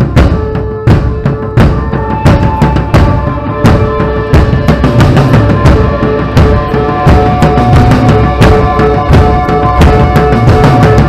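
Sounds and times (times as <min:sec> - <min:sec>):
heavy drum hits: 0:00.0 - 0:11.0
live rock band playing: 0:00.0 - 0:11.0
sustained electric guitar notes: 0:00.3 - 0:11.0.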